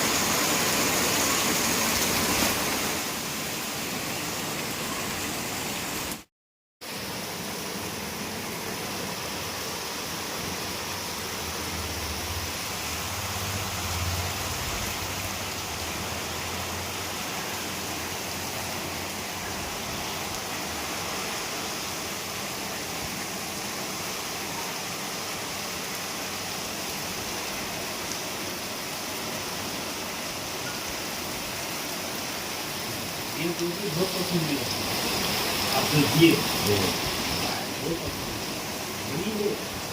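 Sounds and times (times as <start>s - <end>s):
heavy rain: 0.0s - 39.9s
running water: 0.0s - 39.9s.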